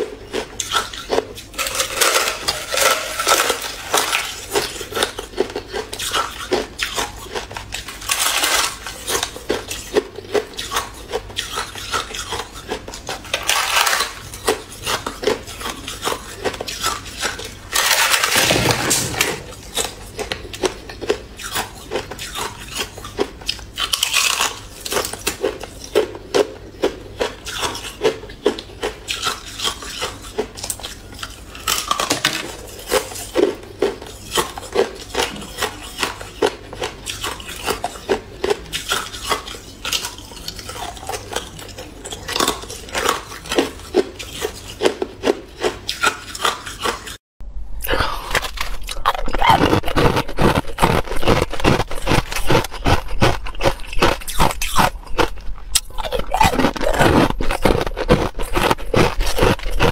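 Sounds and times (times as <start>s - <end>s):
ice crunching between teeth: 0.0s - 47.2s, 47.9s - 59.9s.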